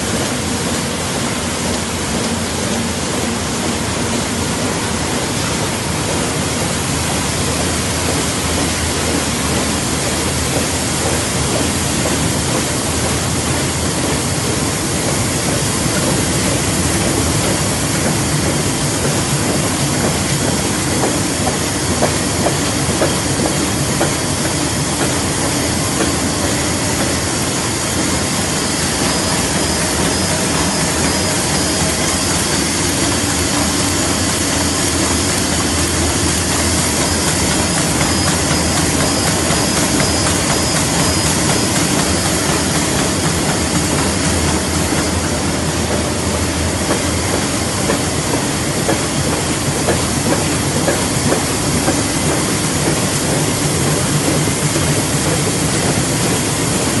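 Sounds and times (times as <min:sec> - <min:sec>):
printing press running: 0:00.0 - 0:57.0.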